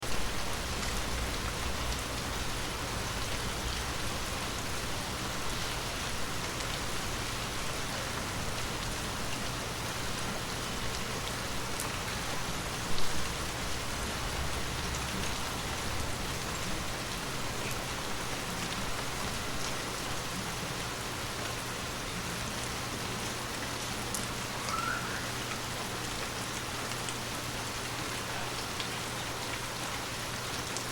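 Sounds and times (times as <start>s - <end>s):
rain pattering on surfaces: 0.0s - 30.9s.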